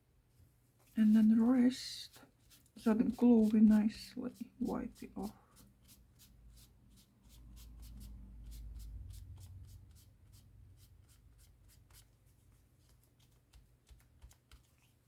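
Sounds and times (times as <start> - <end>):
rubbing strokes on paper: 0.9 - 15.0.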